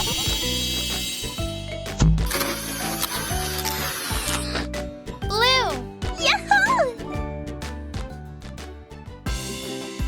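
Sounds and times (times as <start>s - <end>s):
cartoon background music: 0.0s - 10.0s.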